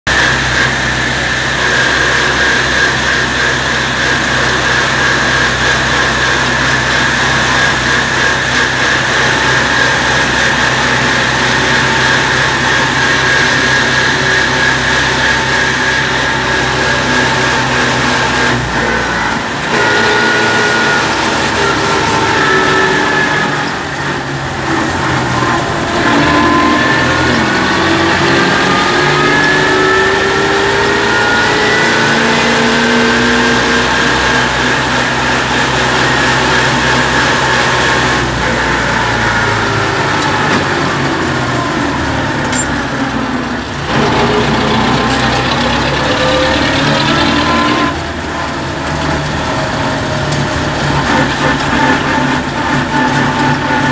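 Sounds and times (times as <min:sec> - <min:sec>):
tractor diesel engine running: 0:00.1 - 0:53.9.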